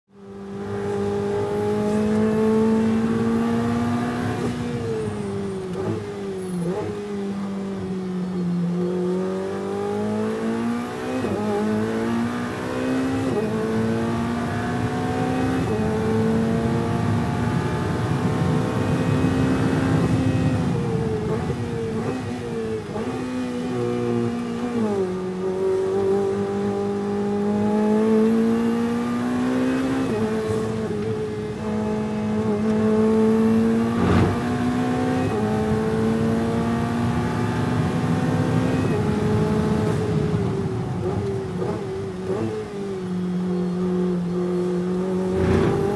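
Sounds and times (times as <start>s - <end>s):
race car engine accelerating: 0.4s - 7.5s, 8.7s - 45.9s.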